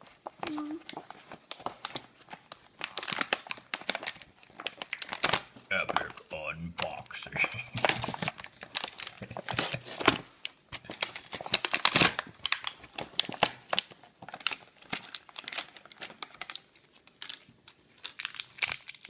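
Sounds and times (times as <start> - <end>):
packaging tearing and crinkling: 0.0 - 6.2, 6.8 - 19.0.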